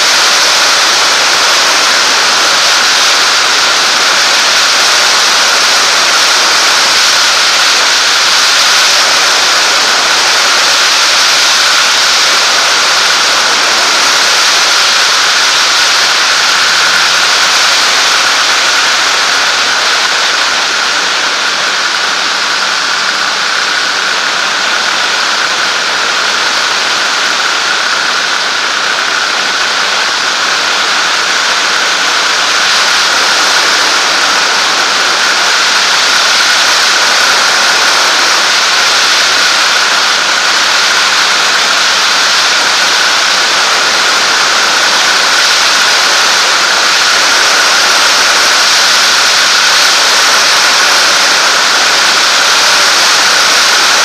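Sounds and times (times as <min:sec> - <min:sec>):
aircraft engine and propeller drone: 0:00.0 - 0:54.0
rushing airflow: 0:00.0 - 0:54.0
steady high whine: 0:00.0 - 0:54.0.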